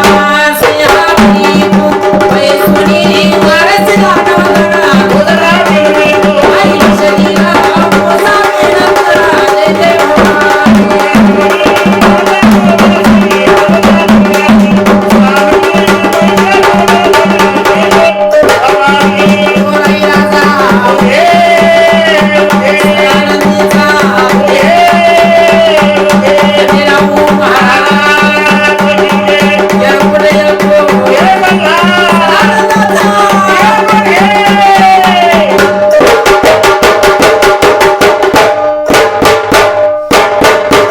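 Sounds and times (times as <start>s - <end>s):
person singing: 0.0s - 36.7s
drums beaten with sticks: 0.0s - 40.9s.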